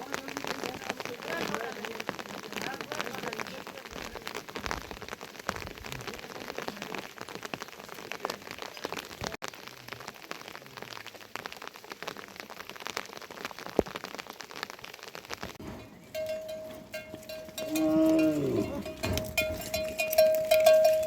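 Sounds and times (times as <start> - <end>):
heavy rain drops: 0.0 - 21.0.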